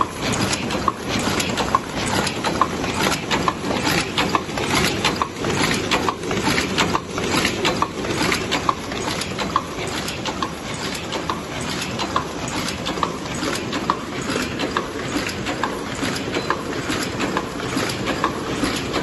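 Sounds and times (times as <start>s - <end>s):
machine clattering: 0.0s - 19.0s.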